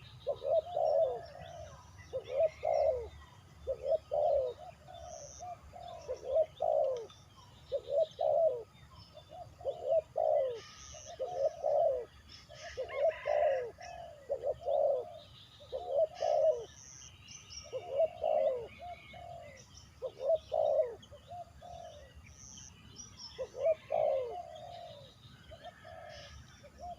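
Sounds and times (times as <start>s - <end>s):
dove cooing: 0.0s - 22.3s, 23.2s - 26.9s
faint small birds chirping: 0.0s - 26.9s.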